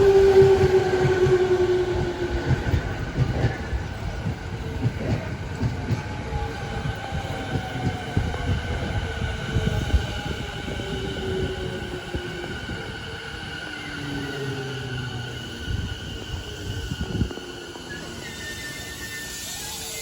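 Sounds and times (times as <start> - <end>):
electric train whine: 0.0 - 20.0.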